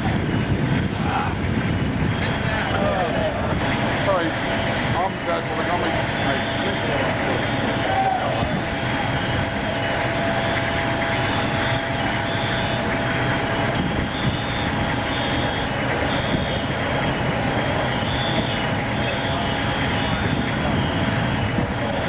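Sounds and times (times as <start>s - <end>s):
fire engines droning: 0.0s - 22.0s.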